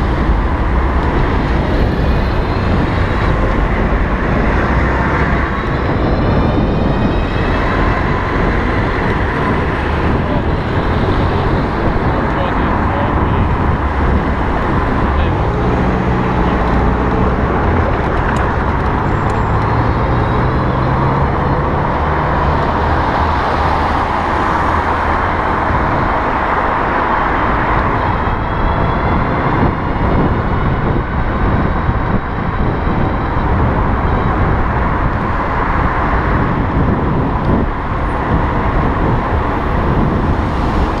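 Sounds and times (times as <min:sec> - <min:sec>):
road and wind noise: 0:00.0 - 0:41.0
vehicle engine hum: 0:00.0 - 0:41.0.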